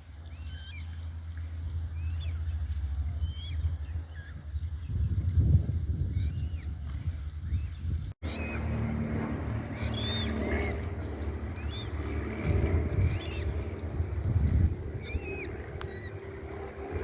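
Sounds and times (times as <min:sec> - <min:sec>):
steady low rumble: 0:00.0 - 0:17.0
birds chirping: 0:00.2 - 0:17.0.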